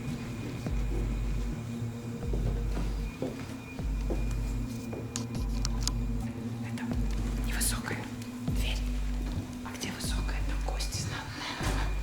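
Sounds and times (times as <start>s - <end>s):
droning bass pulse: 0.0s - 10.9s.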